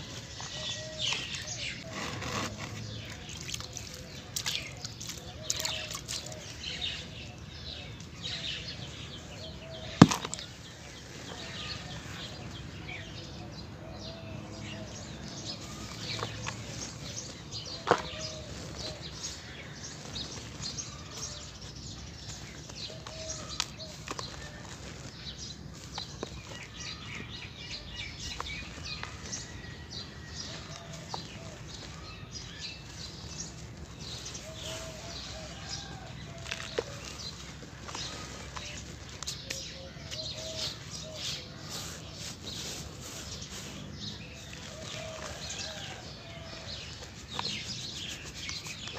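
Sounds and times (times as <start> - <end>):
birds calling: 0.0 - 48.9.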